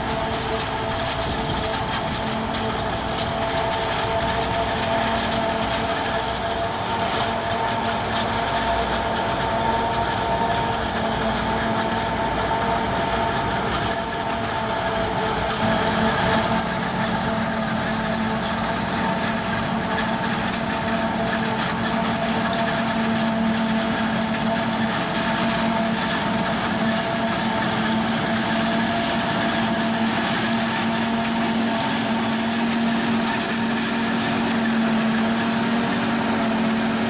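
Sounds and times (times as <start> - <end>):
engine and crop noise: 0.0 - 37.0
harvester machine whine: 0.0 - 37.0.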